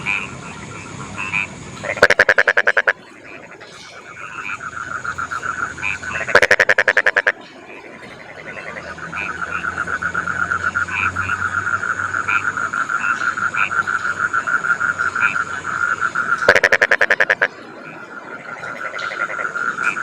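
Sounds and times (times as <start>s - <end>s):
frogs trilling: 0.0s - 20.0s
high frog croaks: 0.0s - 20.0s
frog rattling call: 1.2s - 20.0s.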